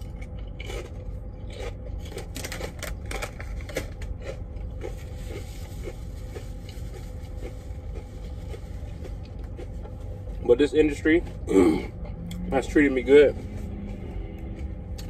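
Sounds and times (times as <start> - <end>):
low hum: 0.0 - 15.0
person chewing crunchy chips: 0.0 - 15.0.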